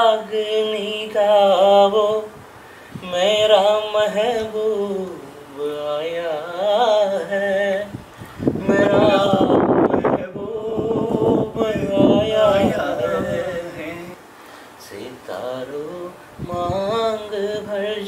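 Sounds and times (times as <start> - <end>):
man singing unaccompanied: 0.0 - 18.0
rough rush of noise: 2.1 - 18.0.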